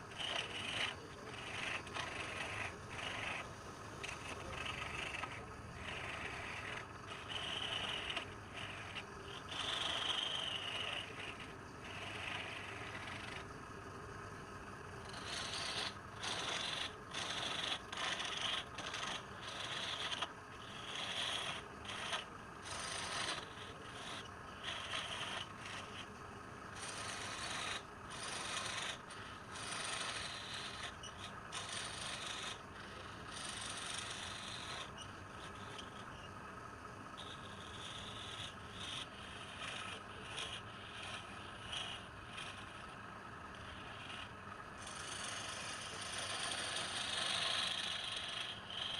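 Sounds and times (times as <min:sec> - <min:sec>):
lathe humming: 0:00.0 - 0:48.9
tool scraping spinning wood: 0:00.0 - 0:48.9.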